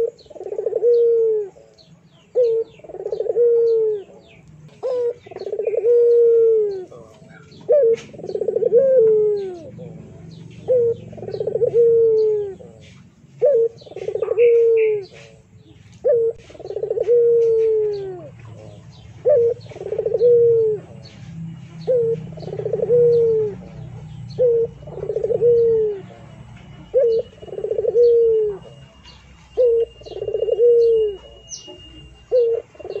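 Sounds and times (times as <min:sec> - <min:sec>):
dove cooing: 0:00.0 - 0:33.0
small birds chirping faintly: 0:00.0 - 0:33.0.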